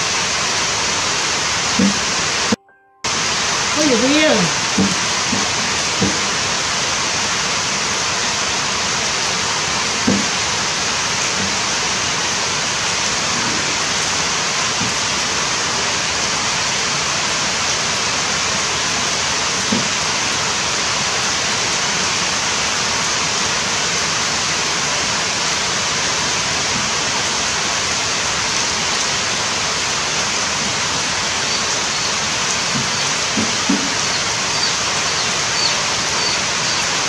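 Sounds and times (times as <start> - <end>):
running water rushing: 0.0 - 37.0.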